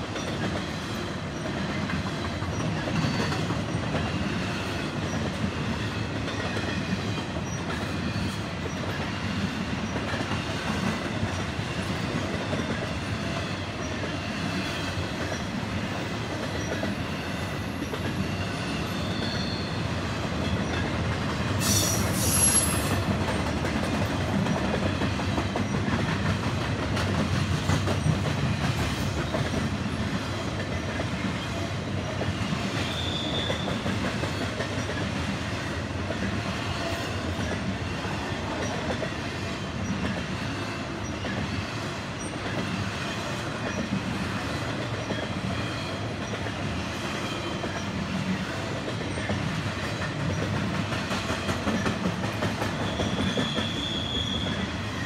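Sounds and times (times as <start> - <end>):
train wheel squeals: 0.0 - 21.0, 21.6 - 26.4, 27.7 - 55.0
freight train wheels clacking: 0.0 - 55.0.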